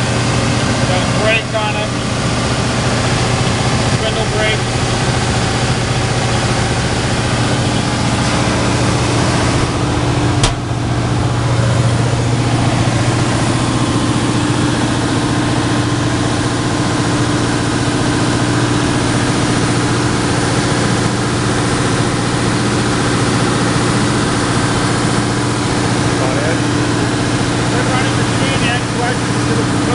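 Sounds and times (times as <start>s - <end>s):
belt sander running: 0.0s - 29.9s.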